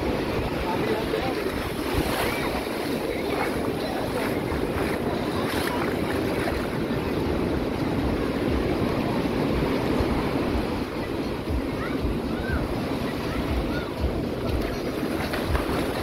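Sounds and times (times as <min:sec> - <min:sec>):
faint voices: 0:00.0 - 0:16.0
surf breaking on beach: 0:00.0 - 0:16.0
wind buffeting microphone: 0:00.0 - 0:16.0.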